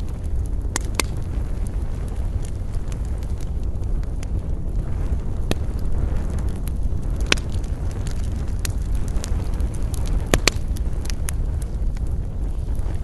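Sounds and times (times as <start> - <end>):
campfire crackling and popping: 0.0 - 13.0
low rumble of wind: 0.0 - 13.0.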